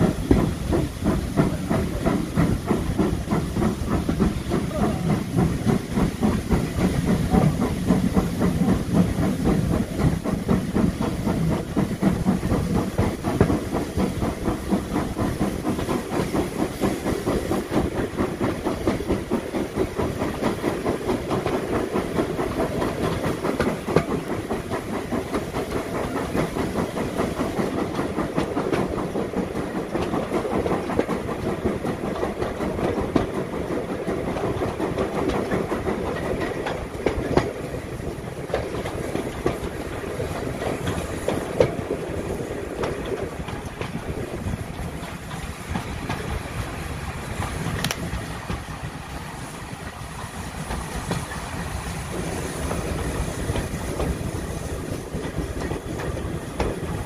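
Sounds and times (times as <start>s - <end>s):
steam hissing: 0.0s - 57.0s
train wheels clattering on rails: 0.0s - 57.0s.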